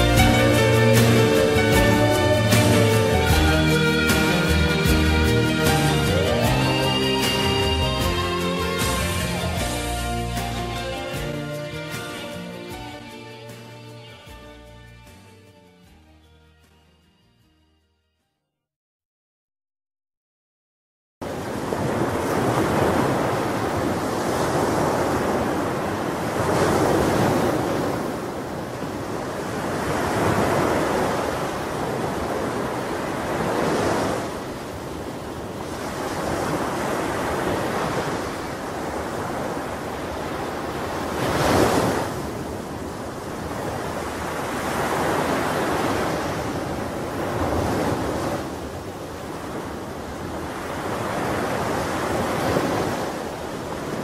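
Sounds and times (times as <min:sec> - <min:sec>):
ocean waves breaking: 0:00.0 - 0:13.1, 0:21.2 - 0:54.0.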